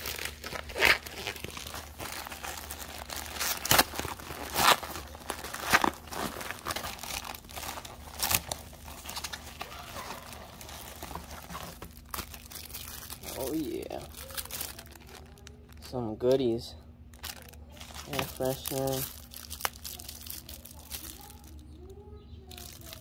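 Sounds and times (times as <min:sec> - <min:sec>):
plastic ripping: 0:00.0 - 0:16.0, 0:17.1 - 0:21.6, 0:22.5 - 0:23.0
plastic bag rustling: 0:00.0 - 0:16.4, 0:17.1 - 0:21.6, 0:22.5 - 0:23.0.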